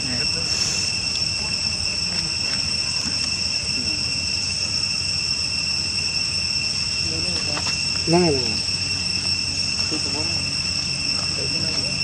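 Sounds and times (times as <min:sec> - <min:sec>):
insects trilling: 0:00.0 - 0:12.0
low background hum: 0:00.0 - 0:12.0.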